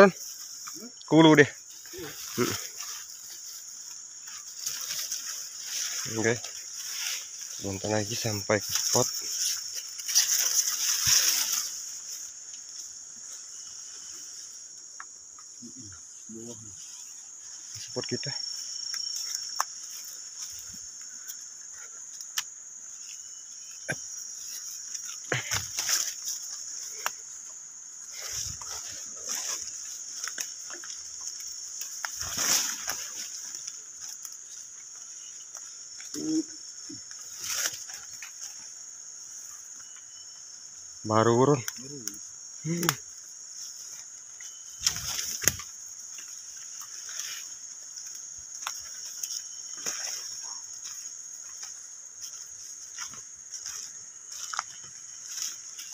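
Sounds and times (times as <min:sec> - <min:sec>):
insects chirping: 0:00.0 - 0:55.9
rustling of leafy undergrowth: 0:00.0 - 0:55.9.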